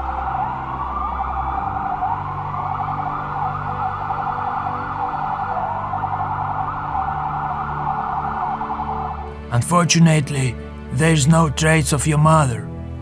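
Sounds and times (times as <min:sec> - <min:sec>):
police sirens wailing: 0:00.0 - 0:12.6
low steady drone: 0:00.0 - 0:13.0.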